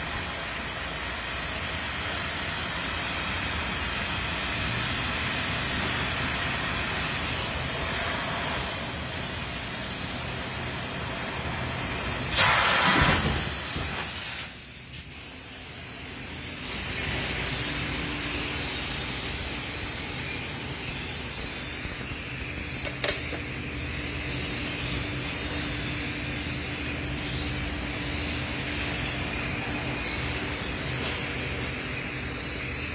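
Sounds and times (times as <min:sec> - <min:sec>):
factory machinery hissing: 0:00.0 - 0:32.9.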